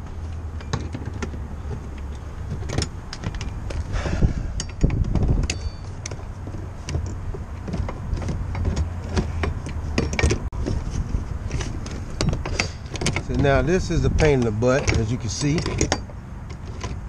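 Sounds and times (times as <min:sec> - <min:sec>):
metal tools clinking and rattling: 0:00.6 - 0:17.0.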